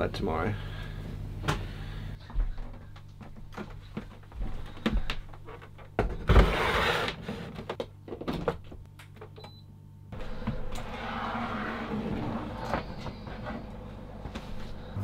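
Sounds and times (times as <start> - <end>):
fan running: 0.0 - 7.9, 10.1 - 15.0.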